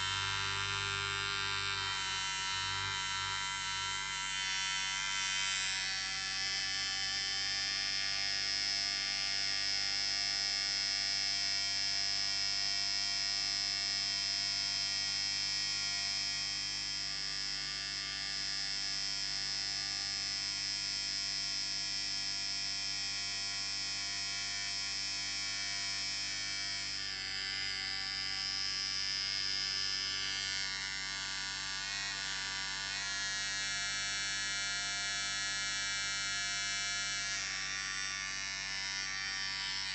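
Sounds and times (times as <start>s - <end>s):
electric beard trimmer buzzing: 0.0s - 39.9s.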